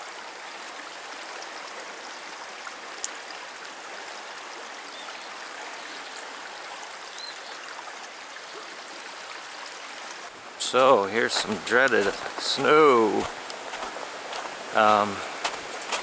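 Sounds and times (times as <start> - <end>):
river current rushing: 0.0 - 16.0.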